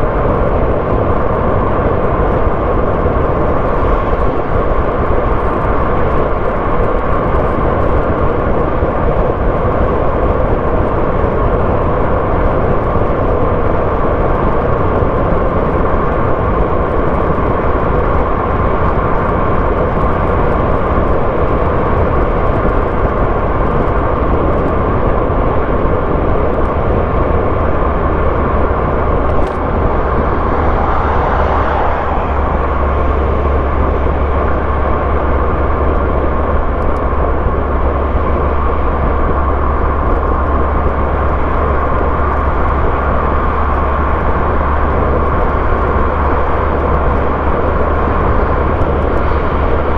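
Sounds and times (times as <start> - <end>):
car engine and tyre noise: 0.0 - 49.9.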